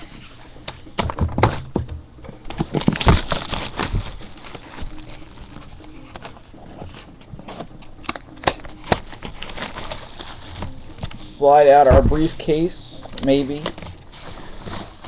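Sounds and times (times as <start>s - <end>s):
plastic shrink-wrap crinkling: 2.4s - 15.0s.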